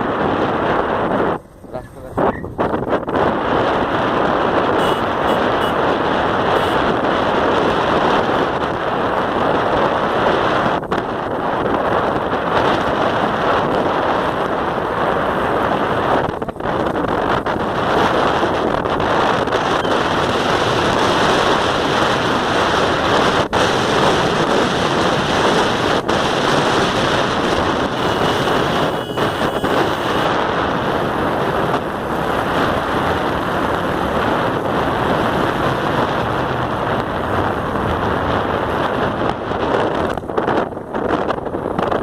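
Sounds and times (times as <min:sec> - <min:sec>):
motorcycle engine: 0:00.0 - 0:41.0
wind rush on microphone: 0:00.0 - 0:42.0.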